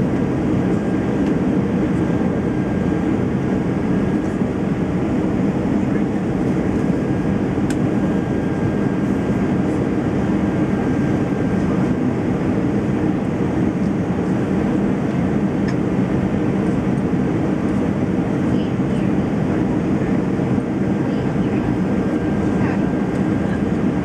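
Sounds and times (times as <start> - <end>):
aircraft cabin rumble and hiss: 0.0 - 24.0.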